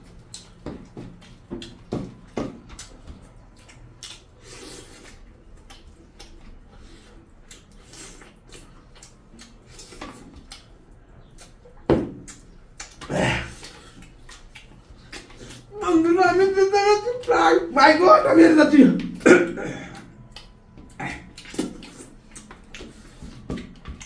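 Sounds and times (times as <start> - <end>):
wet chewing and mouth smacks: 0.0 - 15.8, 18.9 - 24.0.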